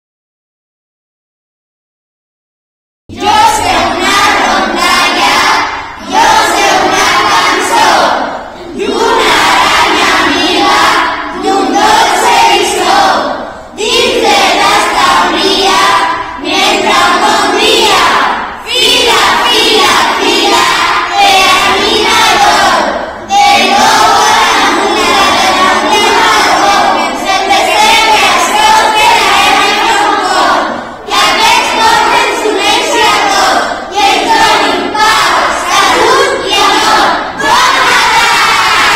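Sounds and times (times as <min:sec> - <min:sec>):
children singing in unison: 0:03.1 - 0:38.9.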